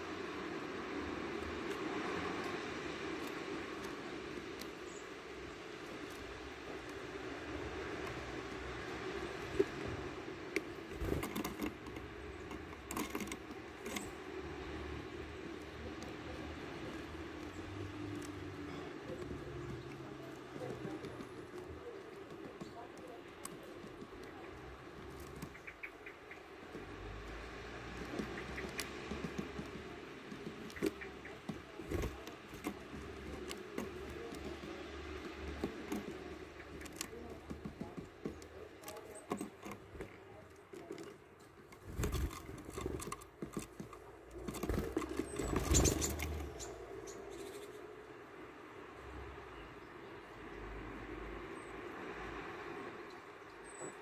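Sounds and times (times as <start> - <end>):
birds pecking at peanut bag: 0.0 - 47.7
birds scratching on wooden floor: 0.0 - 47.9.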